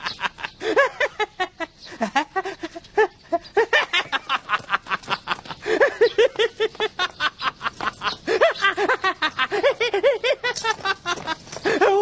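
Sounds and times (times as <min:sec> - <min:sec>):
high-pitched laughter: 0:00.0 - 0:12.0.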